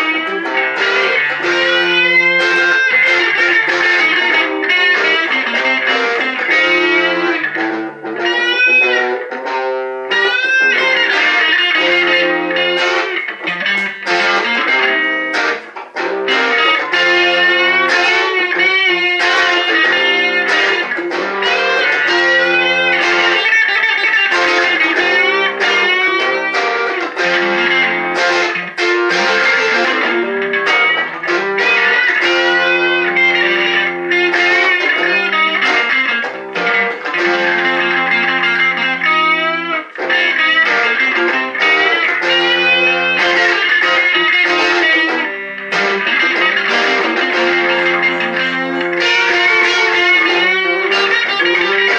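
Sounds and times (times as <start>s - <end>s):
electric guitar bending notes: 0.0s - 51.9s.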